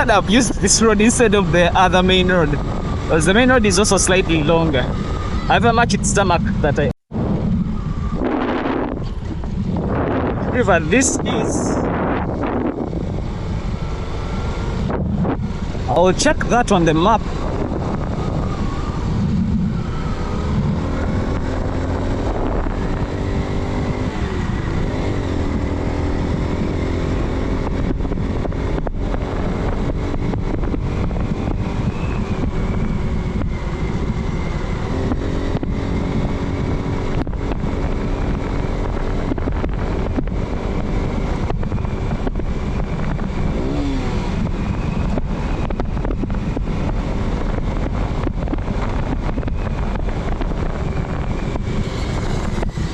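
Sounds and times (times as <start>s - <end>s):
wind on microphone: 0.0s - 52.9s
motorcycle engine running: 0.9s - 5.6s, 6.4s - 52.9s.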